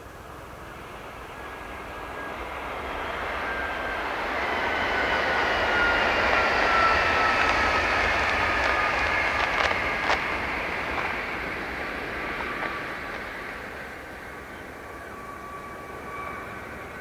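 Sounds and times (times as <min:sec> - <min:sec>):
high-speed train passing: 0:00.0 - 0:17.0
whining tones sliding down: 0:00.3 - 0:17.0.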